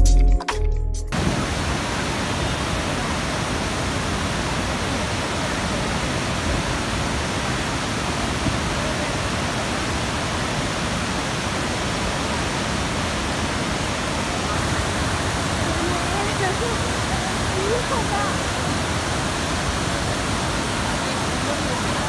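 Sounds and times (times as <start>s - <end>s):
waterfall rushing: 1.2s - 22.0s.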